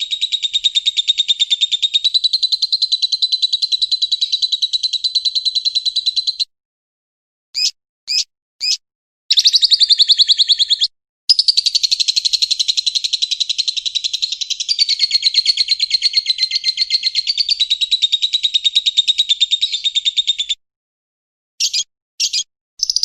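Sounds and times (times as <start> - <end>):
bird chirping and trilling: 0.0 - 6.5, 7.6 - 20.6, 21.6 - 23.0.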